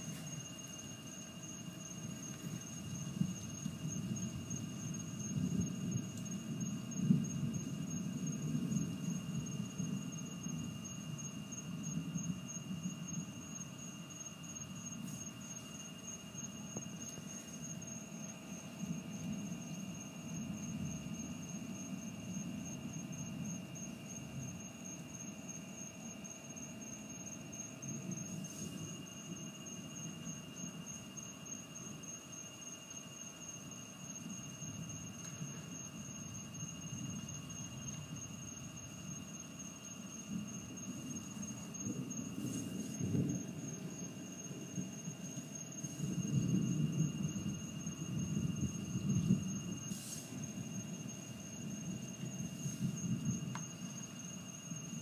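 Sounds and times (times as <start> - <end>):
night insects trilling: 0.0 - 55.0.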